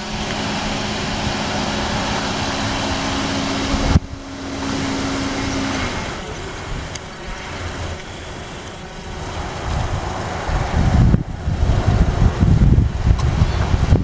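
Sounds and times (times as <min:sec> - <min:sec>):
car engine idling: 0:00.0 - 0:14.0
wind on microphone: 0:00.0 - 0:14.0.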